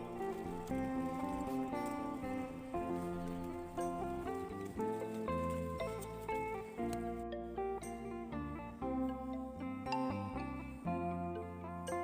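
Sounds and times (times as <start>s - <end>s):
instrumental music with steady bass: 0.0s - 12.0s.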